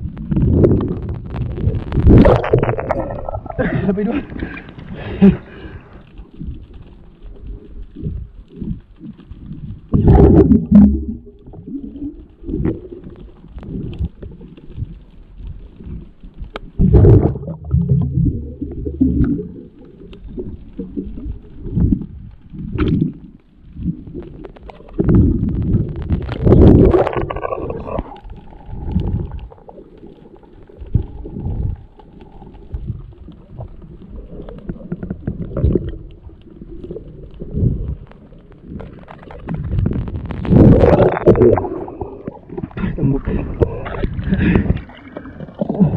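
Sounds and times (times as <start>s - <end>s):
muffled underwater water movement: 0.0s - 45.9s.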